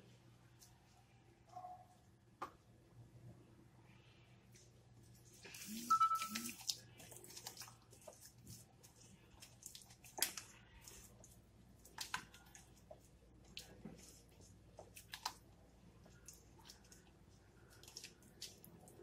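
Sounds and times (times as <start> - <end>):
soft squishing: 0.0 - 19.0.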